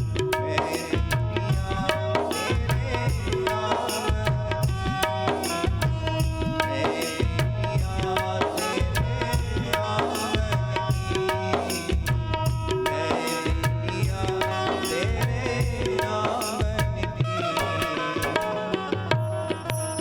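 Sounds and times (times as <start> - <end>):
hand drum rhythm: 0.0 - 19.9.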